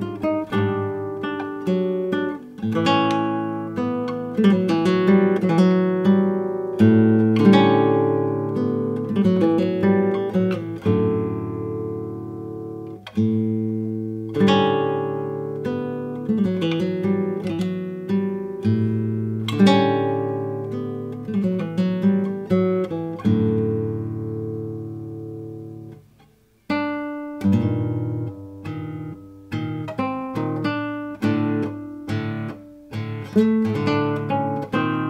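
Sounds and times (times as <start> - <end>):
acoustic guitar chords: 0.0 - 35.0.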